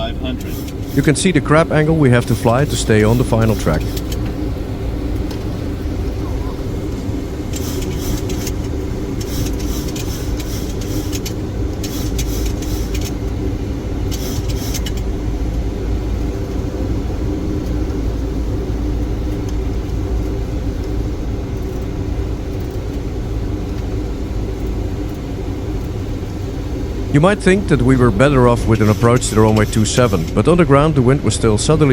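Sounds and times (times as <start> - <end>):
rain hitting windshield: 0.0 - 31.2
airflow and engine rumble: 0.0 - 31.9.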